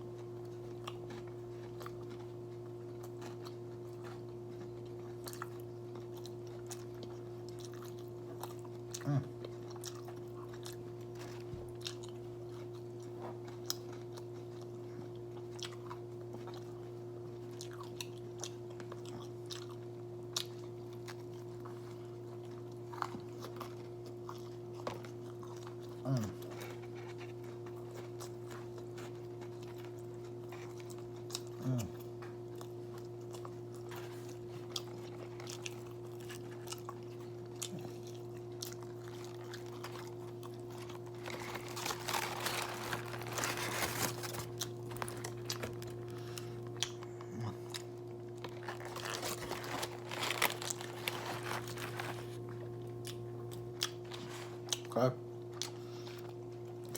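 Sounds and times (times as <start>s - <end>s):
person chewing crispy food: 0.0s - 56.9s
steady low hum: 0.0s - 56.9s.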